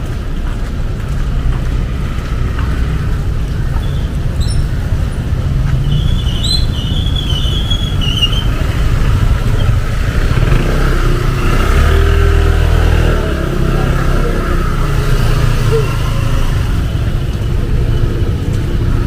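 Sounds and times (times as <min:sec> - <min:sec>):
vehicle engine: 0:00.0 - 0:19.0
vehicles passing on wet street: 0:00.0 - 0:19.0.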